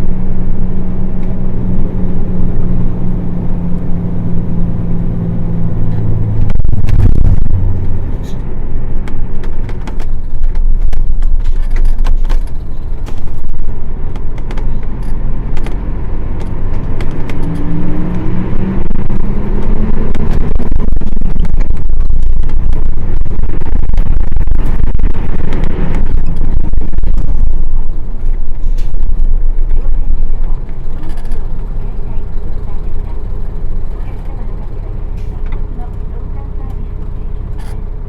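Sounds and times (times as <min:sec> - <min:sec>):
bus diesel engine: 0:00.0 - 0:38.0.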